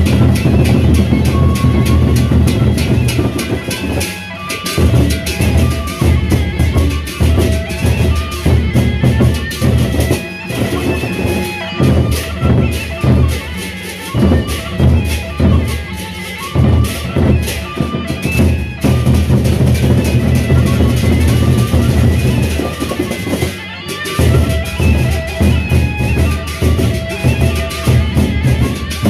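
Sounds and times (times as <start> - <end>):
barrel drums beaten: 0.0 - 29.0
clashing cymbals: 0.0 - 29.0.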